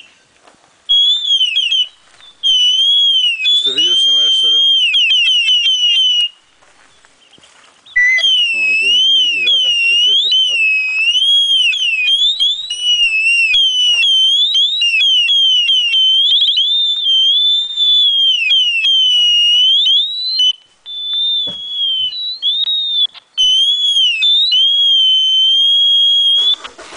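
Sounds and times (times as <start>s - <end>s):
person whistling a melody: 0.9s - 6.3s, 8.0s - 26.6s.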